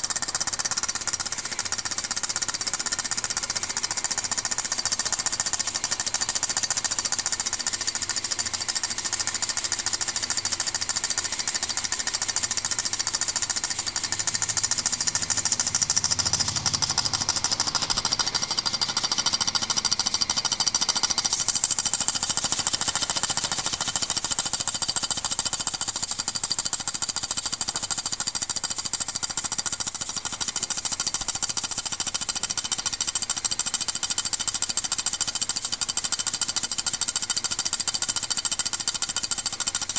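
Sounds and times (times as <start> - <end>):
model steam engine clatter: 0.0 - 39.9.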